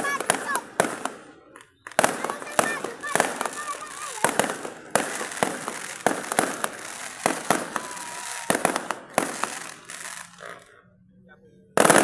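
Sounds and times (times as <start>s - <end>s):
fireworks bangs: 0.0s - 10.8s, 11.8s - 12.0s
fireworks crackling: 0.0s - 10.9s, 11.8s - 12.0s.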